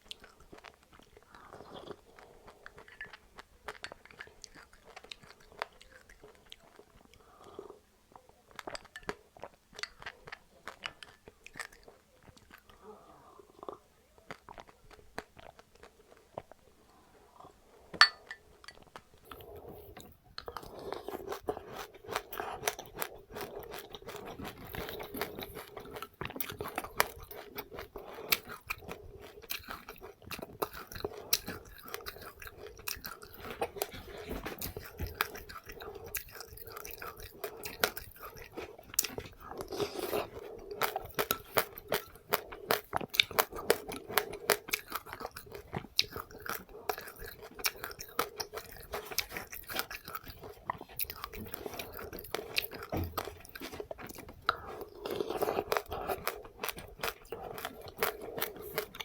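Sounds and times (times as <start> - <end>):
person chewing crunchy seeds: 0.0 - 7.7, 8.6 - 12.9, 18.3 - 59.0.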